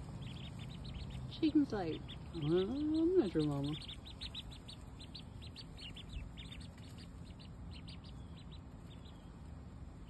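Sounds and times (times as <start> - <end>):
ducklings peeping: 0.0 - 10.0.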